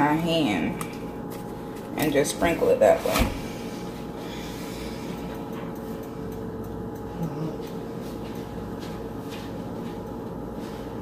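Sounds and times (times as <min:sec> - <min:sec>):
kitchen hum: 0:00.0 - 0:11.0.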